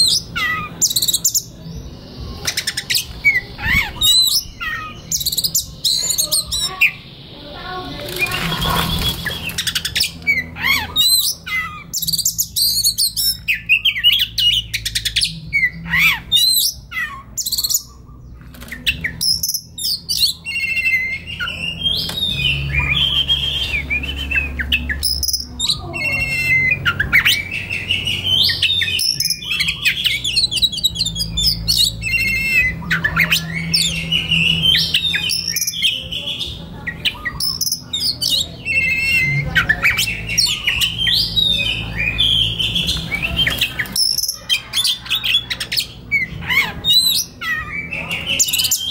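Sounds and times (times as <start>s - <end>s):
magpie-robin singing: 0.0s - 48.9s.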